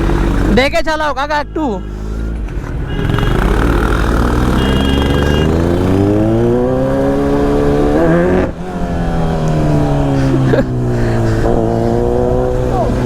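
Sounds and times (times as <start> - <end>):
motorcycle engine accelerating: 0.0 - 0.9, 2.0 - 13.0.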